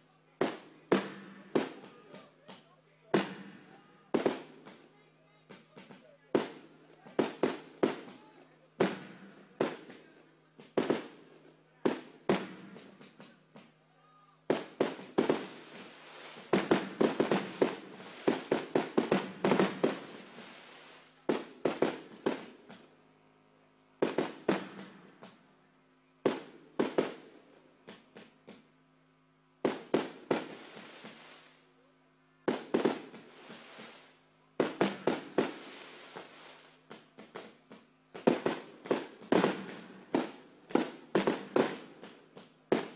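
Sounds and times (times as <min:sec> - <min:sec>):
fireworks bangs and crackling: 0:00.3 - 0:13.8, 0:14.4 - 0:23.0, 0:24.0 - 0:25.5, 0:26.2 - 0:28.8, 0:29.6 - 0:31.7, 0:32.5 - 0:42.9.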